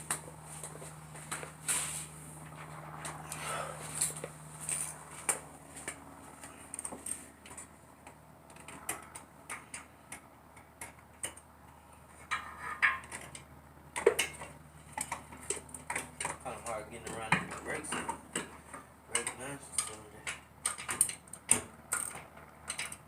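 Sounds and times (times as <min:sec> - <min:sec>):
hand tools clicking and tapping: 0:03.0 - 0:23.0.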